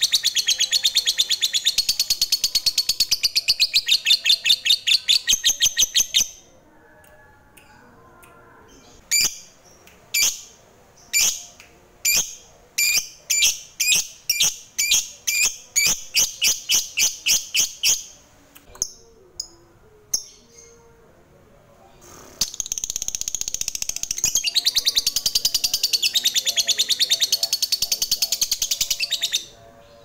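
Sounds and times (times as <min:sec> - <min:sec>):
lovebird chirping and chattering: 0:00.0 - 0:06.4, 0:08.7 - 0:20.9, 0:22.4 - 0:29.5.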